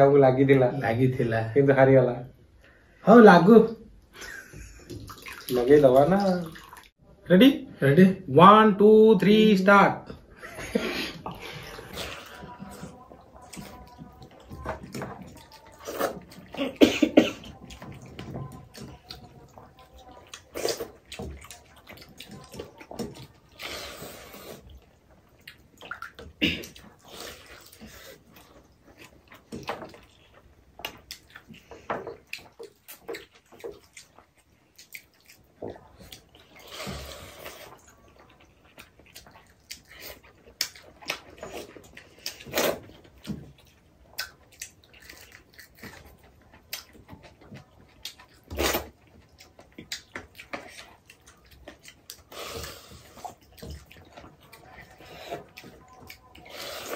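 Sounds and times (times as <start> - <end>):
people slurping and chewing: 4.0 - 5.6, 10.1 - 56.9.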